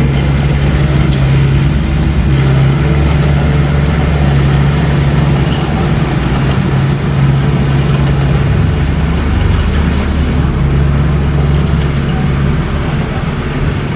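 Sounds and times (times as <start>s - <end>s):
bulldozer diesel engine running: 0.0s - 13.9s.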